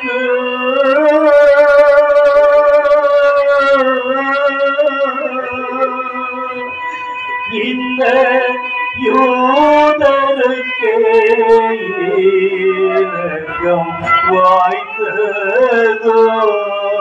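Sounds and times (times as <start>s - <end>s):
instrumental accompaniment: 0.0s - 17.0s
person singing long wavering notes: 0.0s - 17.0s.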